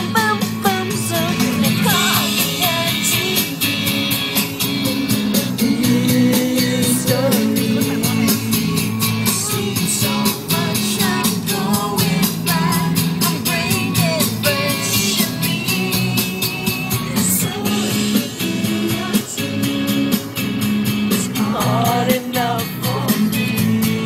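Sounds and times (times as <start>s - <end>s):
rock song with singing: 0.0s - 24.0s.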